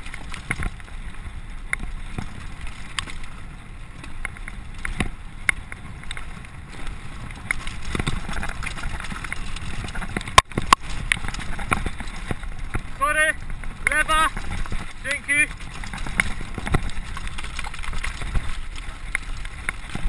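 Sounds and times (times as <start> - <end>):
bike rattling: 0.0 - 20.0
tyres on dirt and stones: 0.0 - 20.0.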